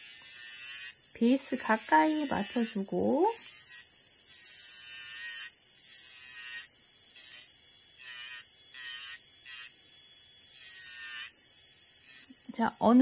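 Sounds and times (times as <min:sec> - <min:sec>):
drill bit grinding: 0:00.0 - 0:12.5
electric nail drill whining: 0:00.0 - 0:13.0.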